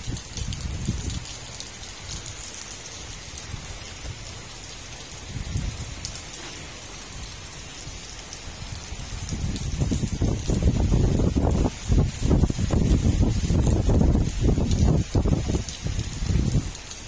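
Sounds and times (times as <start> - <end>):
steady rain falling: 0.0 - 17.0
water dripping off roof edge: 0.0 - 17.0.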